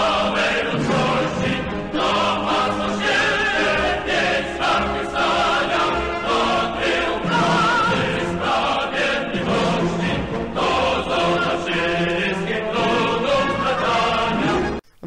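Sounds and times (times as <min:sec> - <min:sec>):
choir singing long held notes: 0:00.0 - 0:14.8.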